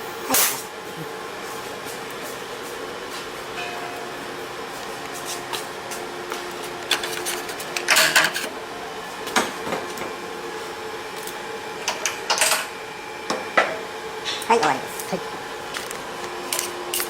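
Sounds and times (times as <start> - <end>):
workshop machinery humming: 0.0 - 17.0.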